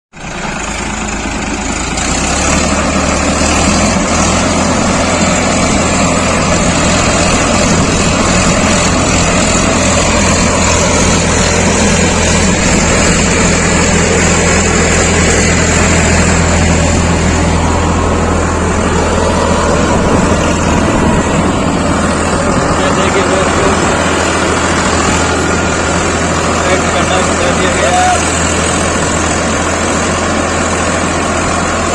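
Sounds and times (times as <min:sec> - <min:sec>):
diesel tractor engine running: 0:00.1 - 0:31.9.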